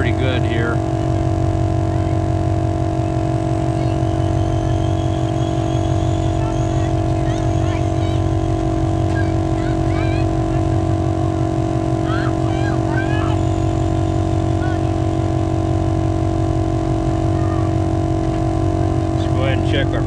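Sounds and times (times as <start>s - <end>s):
air compressor running: 0.0s - 20.0s.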